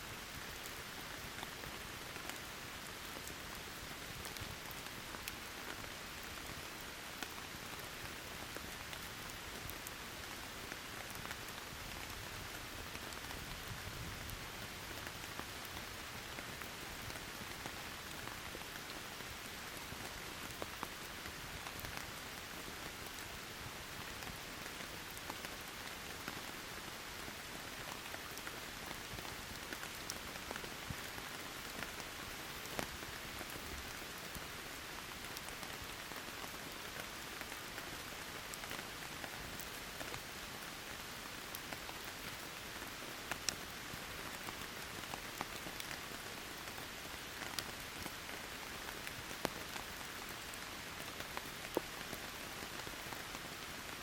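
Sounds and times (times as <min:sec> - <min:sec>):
rain falling: 0:00.0 - 0:54.0
campfire crackling: 0:00.2 - 0:54.0.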